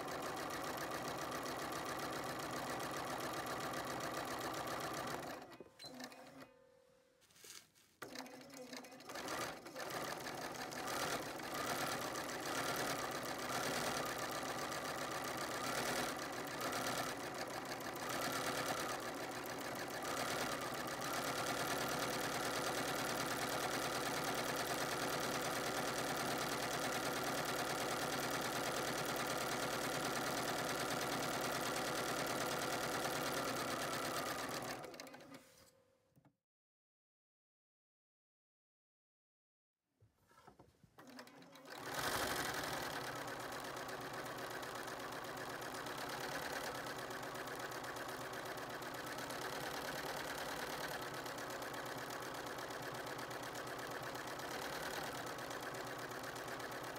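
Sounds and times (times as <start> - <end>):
sewing machine stitching: 0.0 - 6.5, 8.0 - 35.6, 40.3 - 56.9.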